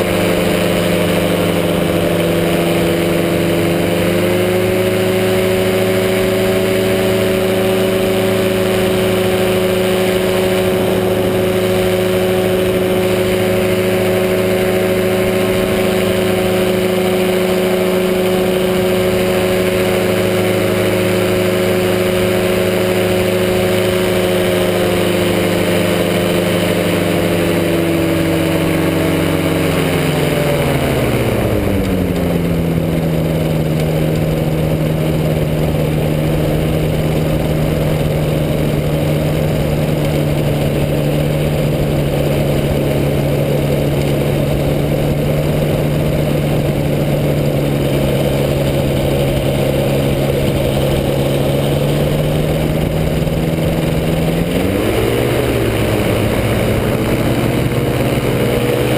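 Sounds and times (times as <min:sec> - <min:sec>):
engine and propeller running: 0:00.0 - 0:58.9.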